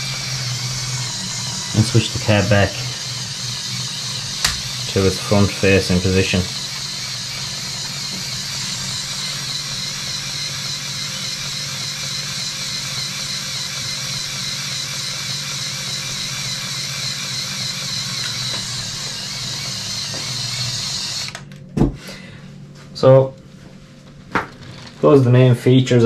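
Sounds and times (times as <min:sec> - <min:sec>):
machine hum and hiss: 0:00.0 - 0:23.8.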